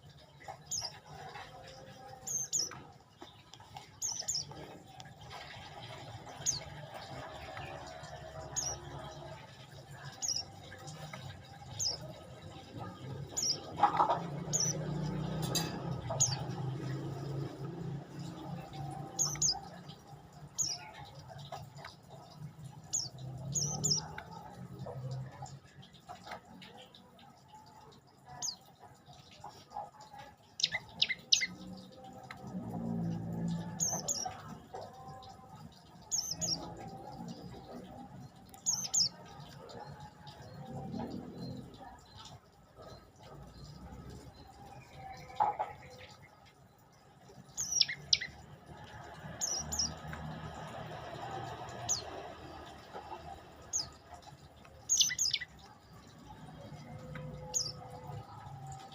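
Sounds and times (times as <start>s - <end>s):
songbird chirps: 0.0s - 58.9s.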